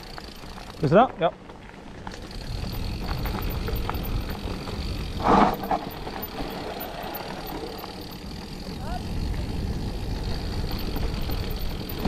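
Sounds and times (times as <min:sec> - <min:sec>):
bike clicks and rattles: 0:00.0 - 0:12.0
bike jolt: 0:00.0 - 0:12.0
tyres crunching over gravel: 0:00.0 - 0:12.0
wind rumbling on microphone: 0:01.9 - 0:12.0.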